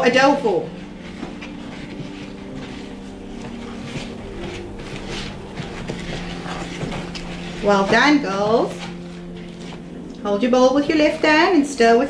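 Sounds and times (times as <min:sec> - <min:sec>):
steady low hum: 0:00.0 - 0:12.0
wooden spoons stirring dough: 0:00.0 - 0:12.0.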